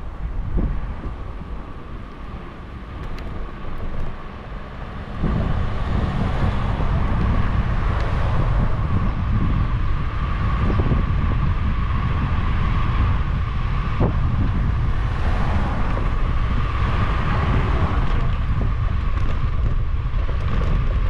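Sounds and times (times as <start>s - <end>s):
vehicle interior rumble: 0.0s - 21.0s.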